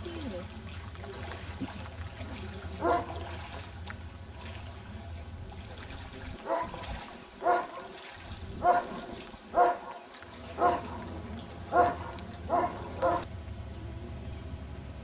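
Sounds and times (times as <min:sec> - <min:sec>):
person wading through water: 0:00.0 - 0:13.3
steady low hum: 0:00.0 - 0:15.0.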